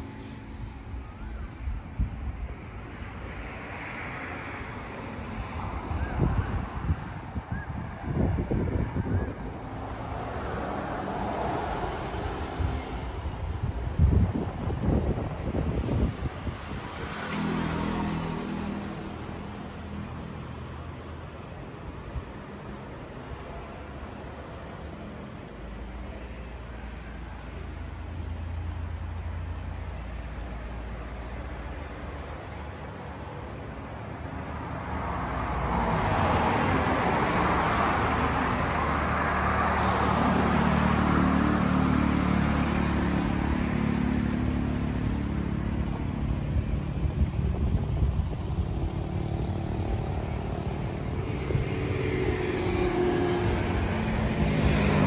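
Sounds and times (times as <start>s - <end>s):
vehicle engine hum: 7.5s - 55.0s.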